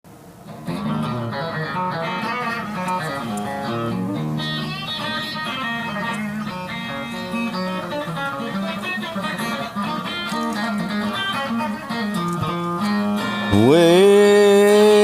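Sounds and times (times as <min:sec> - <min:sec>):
plucked and strummed guitar: 0:00.1 - 0:15.0.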